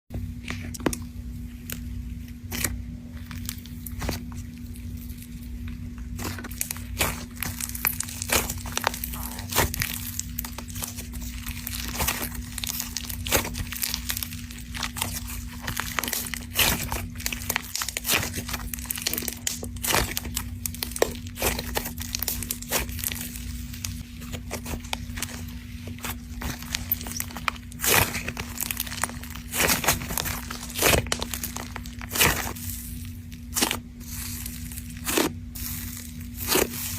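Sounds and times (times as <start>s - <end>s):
slime crackling and crunching: 0.4s - 36.9s.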